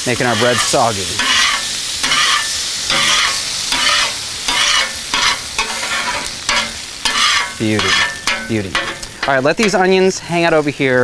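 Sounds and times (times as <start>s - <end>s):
metal scraper on griddle: 0.0s - 9.9s
water sizzling on hot griddle: 0.0s - 11.0s.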